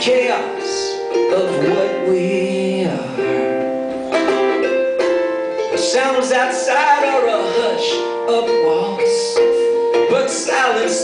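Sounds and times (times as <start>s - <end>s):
man singing: 0.0s - 3.6s, 5.7s - 11.0s
ukulele strumming: 0.0s - 11.0s.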